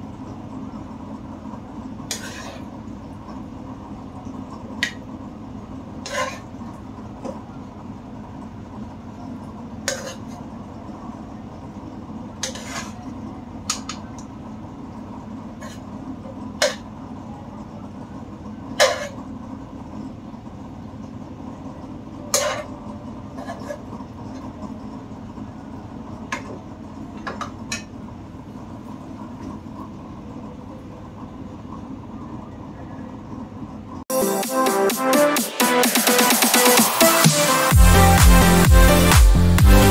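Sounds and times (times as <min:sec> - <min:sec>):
steady low hum: 0:00.0 - 0:35.3.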